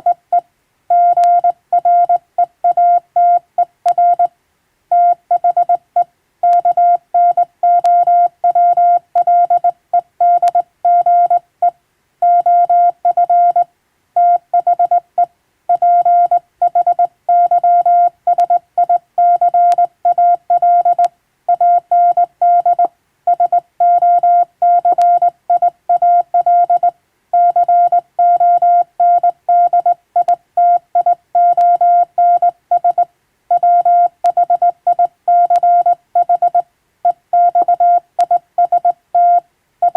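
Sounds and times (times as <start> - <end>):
morse code beeps: 0.0 - 4.3, 4.9 - 5.8, 6.4 - 11.4, 12.2 - 13.6, 14.2 - 15.0, 15.7 - 39.9.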